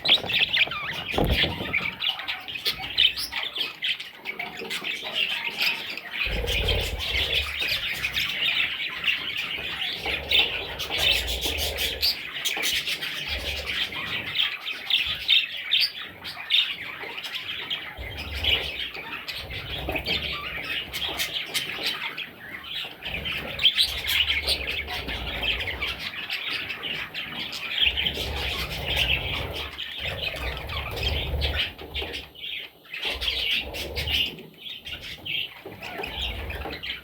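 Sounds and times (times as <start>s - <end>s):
parrot chicks squawking: 0.0s - 37.0s.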